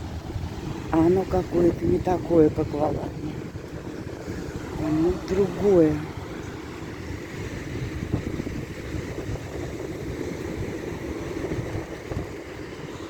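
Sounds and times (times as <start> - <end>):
sea surf: 0.0 - 13.0
wind buffeting microphone: 0.0 - 13.0.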